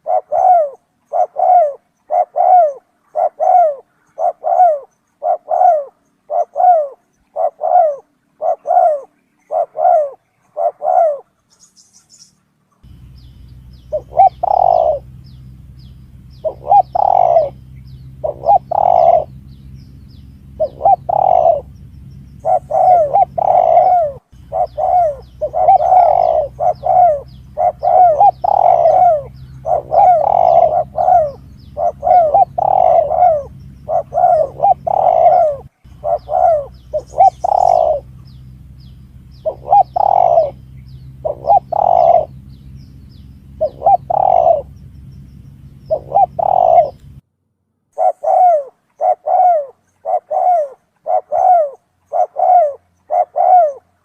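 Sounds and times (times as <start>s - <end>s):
dove cooing: 0.0s - 11.4s, 12.8s - 47.2s, 48.0s - 54.0s
low hum: 6.0s - 54.0s.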